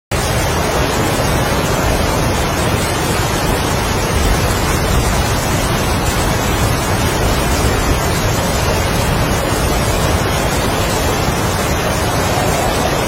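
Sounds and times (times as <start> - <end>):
heavy rain: 0.1 - 13.0
strong wind: 0.1 - 13.0.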